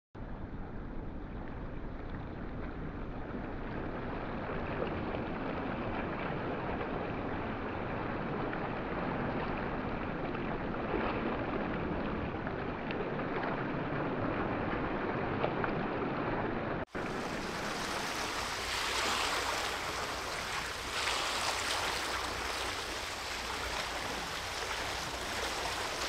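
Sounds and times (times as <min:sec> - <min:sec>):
wind: 0:00.2 - 0:26.0
water noise: 0:01.1 - 0:26.0.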